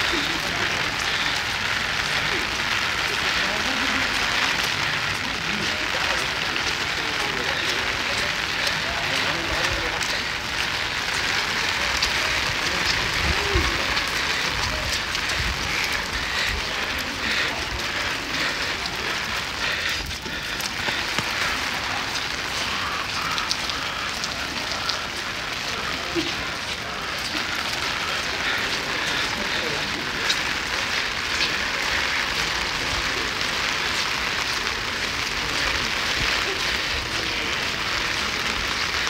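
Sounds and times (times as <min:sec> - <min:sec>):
rain pattering: 0:00.0 - 0:39.0.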